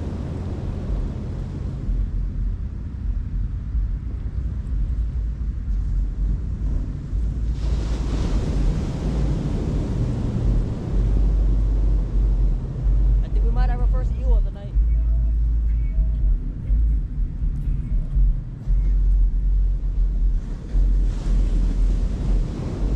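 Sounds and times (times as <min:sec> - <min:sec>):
ocean surf: 0:00.0 - 0:22.9
wind rumbling on microphone: 0:00.0 - 0:22.9.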